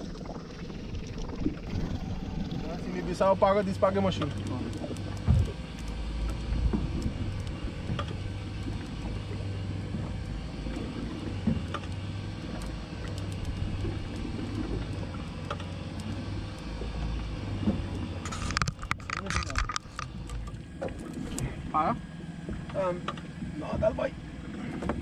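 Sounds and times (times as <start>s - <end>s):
electric reel motor hum: 0.0s - 25.0s.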